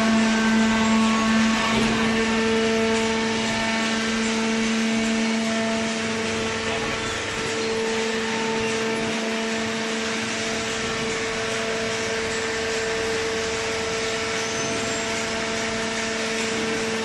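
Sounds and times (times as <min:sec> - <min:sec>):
baler machine hum: 0:00.0 - 0:17.0.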